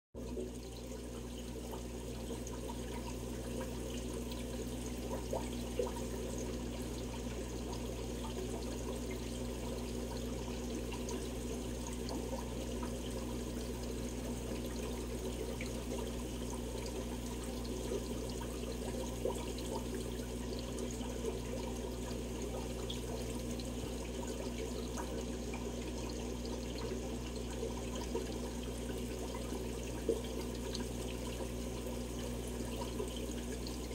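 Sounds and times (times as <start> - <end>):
aquarium air bubbling: 0.2 - 33.9
low steady hum: 0.2 - 33.9.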